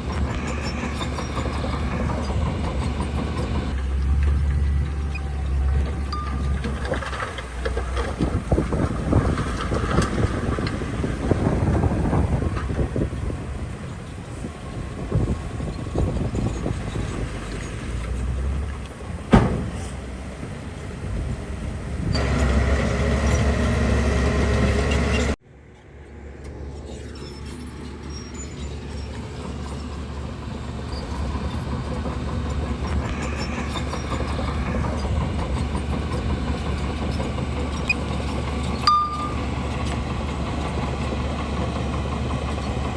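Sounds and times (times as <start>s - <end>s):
bulldozer diesel engine under load: 0.0s - 25.4s, 26.5s - 42.9s.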